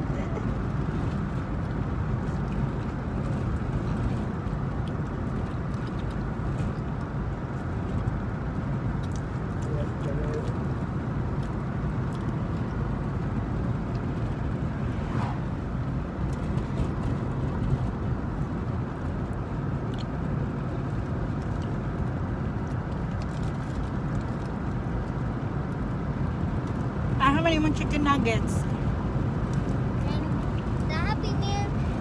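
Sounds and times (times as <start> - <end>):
faint clicks and rustles: 0.2 - 14.8, 15.8 - 27.6.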